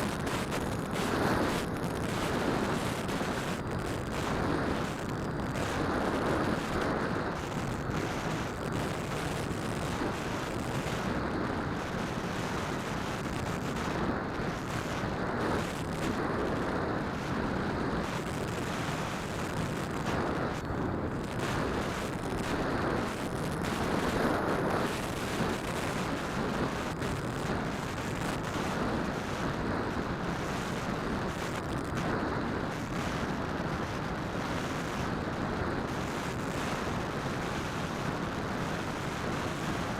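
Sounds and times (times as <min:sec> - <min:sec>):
propeller wash and wind rumble: 0:00.0 - 0:39.9.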